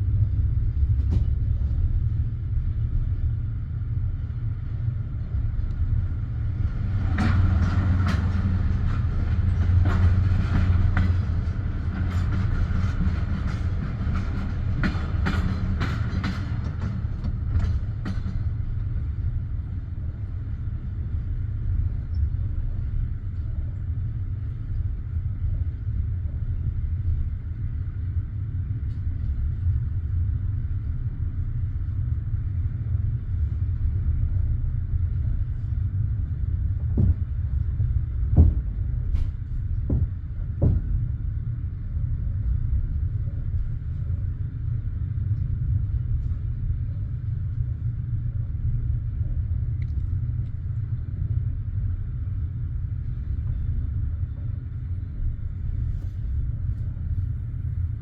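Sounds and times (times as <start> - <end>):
railway carriage rumble: 0.0 - 58.0.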